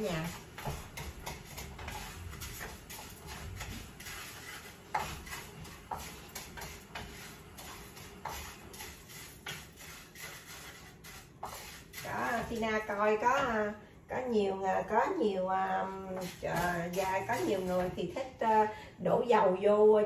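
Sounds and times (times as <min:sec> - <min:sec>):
wooden spatula scraping rice in pan: 0:00.0 - 0:13.8, 0:15.6 - 0:18.2.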